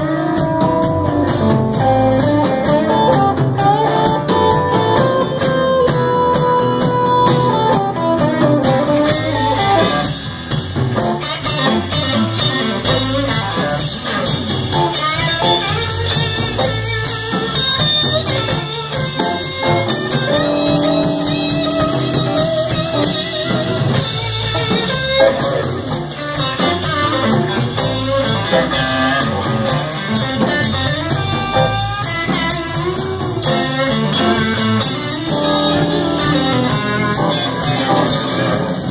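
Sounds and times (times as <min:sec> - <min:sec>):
blues band playing: 0:00.0 - 0:38.9.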